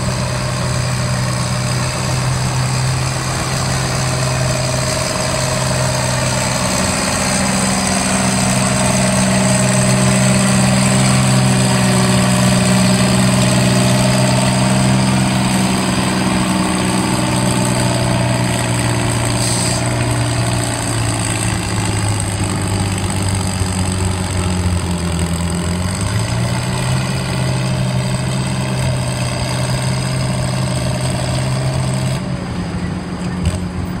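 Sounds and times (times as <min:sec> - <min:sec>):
tractor engine droning under load: 0:00.0 - 0:34.0.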